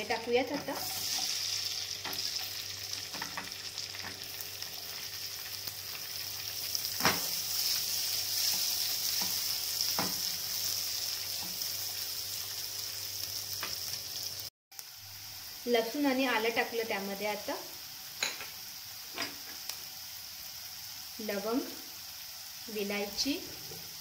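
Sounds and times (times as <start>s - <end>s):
onions sizzling in oil: 0.0s - 24.0s.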